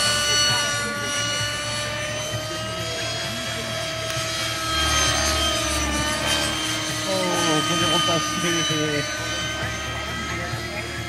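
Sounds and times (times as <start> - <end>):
model helicopter rotor whine: 0.0 - 11.0.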